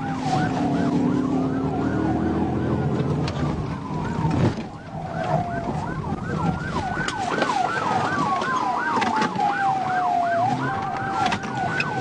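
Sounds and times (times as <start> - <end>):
car engine and road noise: 0.0 - 12.0
police siren wail: 0.0 - 12.0
police siren yelp: 0.0 - 12.0.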